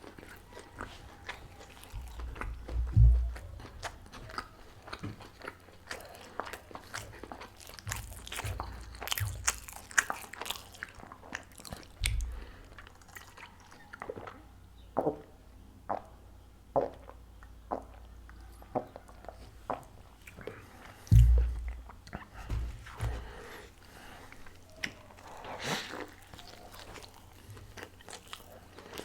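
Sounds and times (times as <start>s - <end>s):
biting and chewing pastry: 0.0s - 15.2s, 16.8s - 29.0s.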